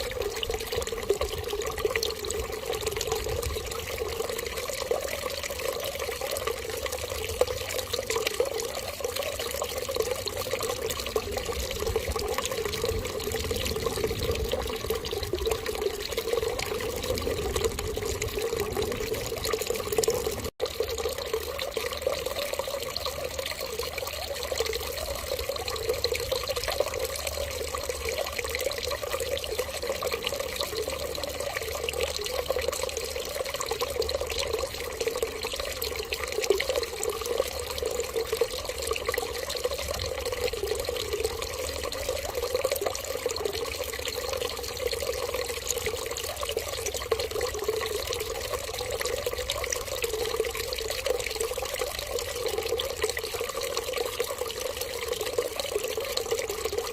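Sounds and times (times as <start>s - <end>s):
running water splashing: 0.0s - 56.9s.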